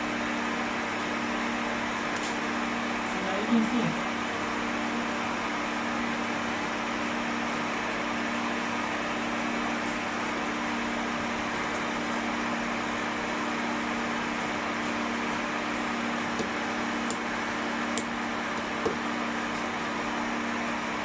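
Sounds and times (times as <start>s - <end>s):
hair dryer blowing: 2.6s - 21.0s.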